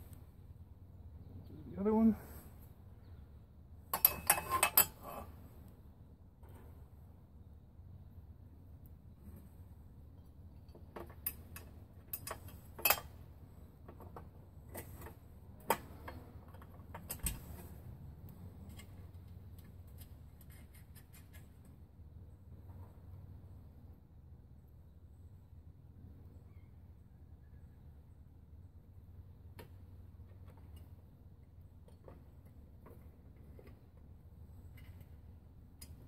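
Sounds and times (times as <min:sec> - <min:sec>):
faint low background rumble: 0:00.0 - 0:36.0.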